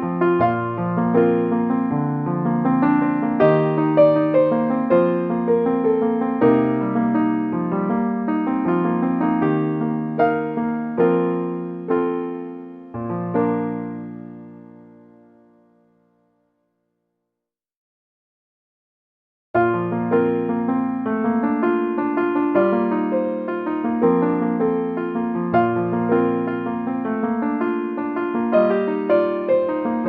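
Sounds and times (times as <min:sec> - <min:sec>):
slow gentle piano music: 0:00.0 - 0:16.8, 0:19.6 - 0:30.0.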